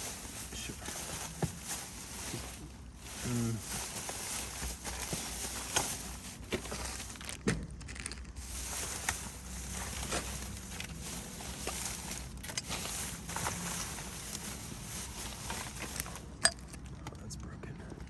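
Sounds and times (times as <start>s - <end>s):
plastic bags rustling: 0.0s - 17.0s
items clattering: 0.0s - 17.2s.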